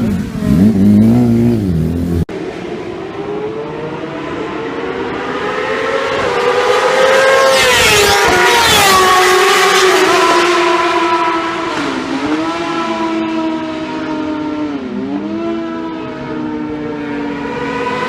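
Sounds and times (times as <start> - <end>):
motorcycles racing past: 0.0 - 18.0.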